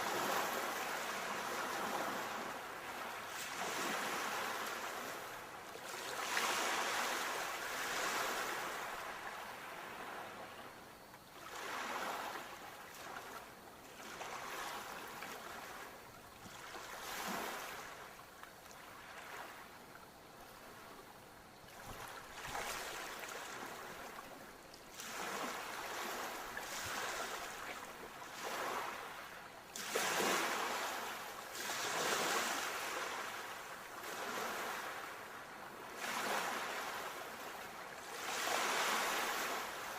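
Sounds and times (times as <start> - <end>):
ocean waves breaking on shore: 0.0 - 21.0, 21.6 - 39.9.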